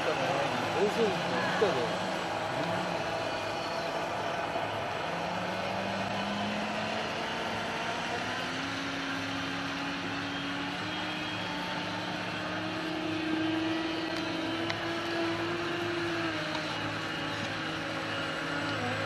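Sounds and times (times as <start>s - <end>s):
model boat motor running: 0.0s - 19.0s.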